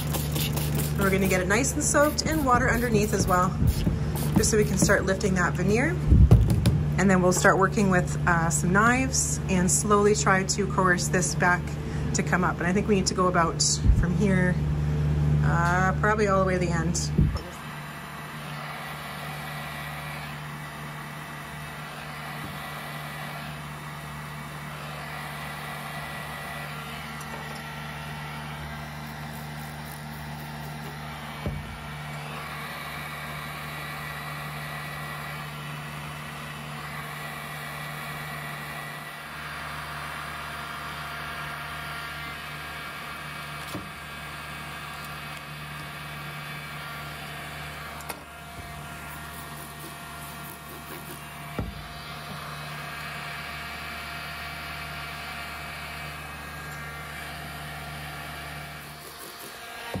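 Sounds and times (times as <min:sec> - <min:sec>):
heat gun fan humming: 0:00.0 - 1:00.0.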